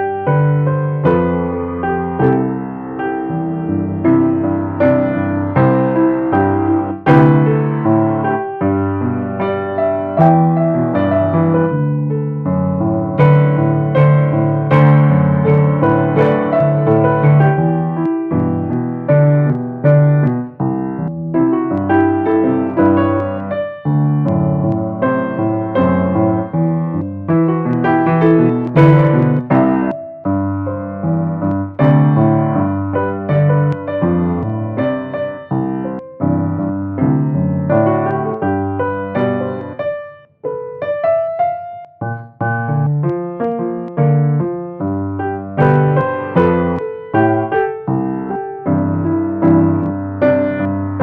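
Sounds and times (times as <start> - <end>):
piano playing slow chords: 0.0 - 51.0.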